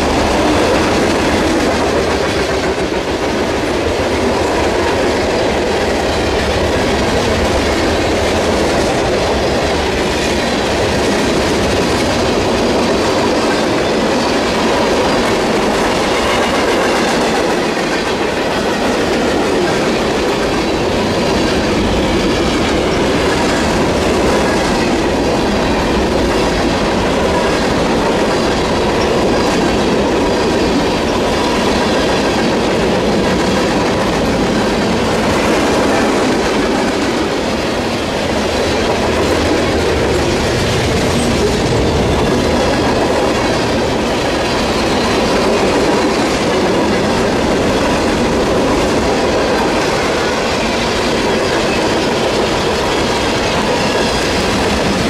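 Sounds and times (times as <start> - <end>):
train wheels clicking on rails: 0.0 - 55.0.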